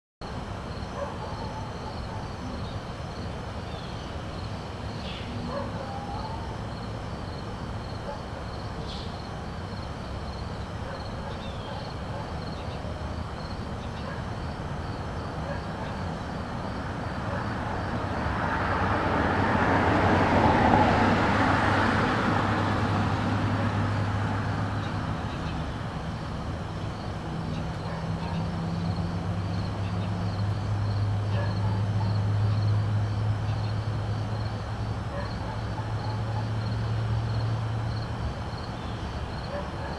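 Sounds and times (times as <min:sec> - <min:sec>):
motor vehicle passing by: 0:01.0 - 0:39.9.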